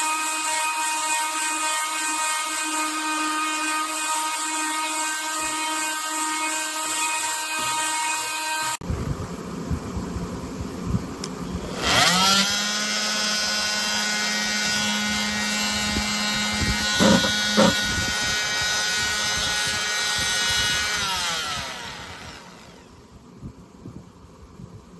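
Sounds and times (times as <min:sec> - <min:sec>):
oscillating multitool motor running: 0:00.0 - 0:08.8, 0:11.3 - 0:23.1.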